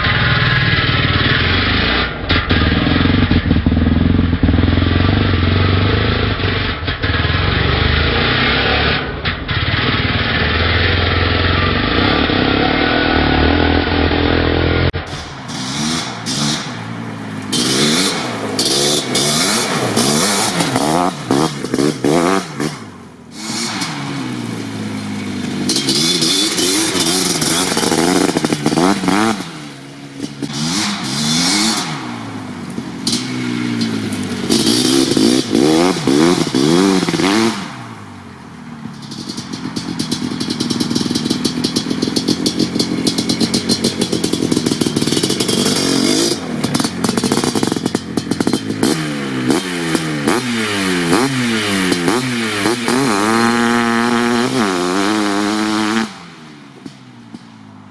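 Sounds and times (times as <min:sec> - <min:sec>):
two-stroke quad engine revving: 0:00.0 - 0:57.9.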